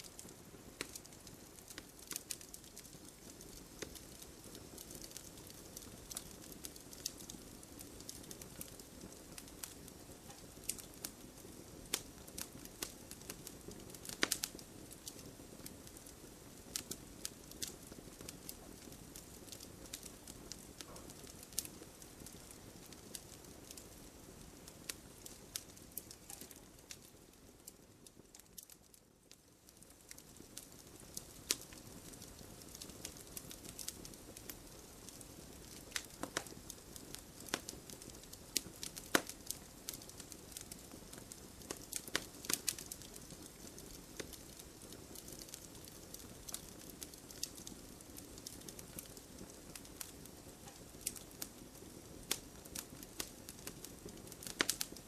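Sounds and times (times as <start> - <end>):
campfire crackling: 0.0 - 55.0
low hiss: 0.0 - 55.0.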